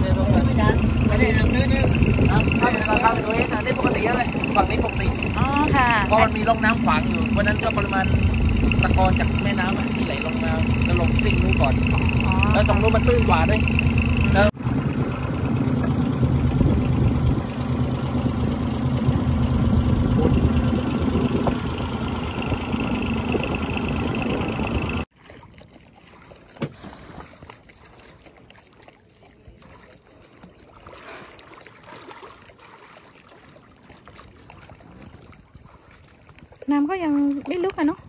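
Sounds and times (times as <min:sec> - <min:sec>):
boat engine running: 0:00.0 - 0:38.0
light wind: 0:00.0 - 0:38.0
water lapping: 0:00.0 - 0:38.0.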